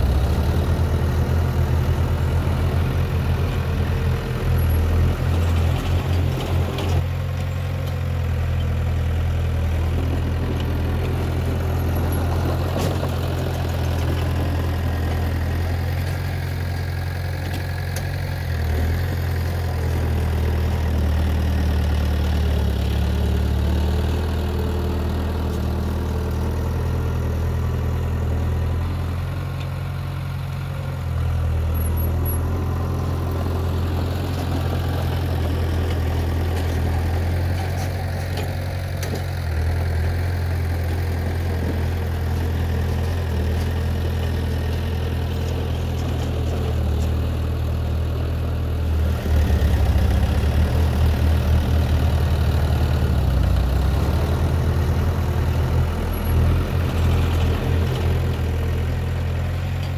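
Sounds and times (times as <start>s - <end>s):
diesel engine running at low revs: 0.0s - 59.9s.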